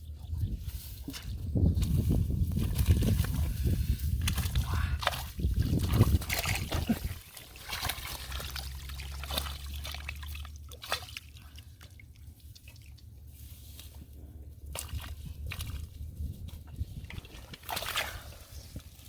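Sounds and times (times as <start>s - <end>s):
shallow water sloshing and trickling: 0.0s - 19.0s.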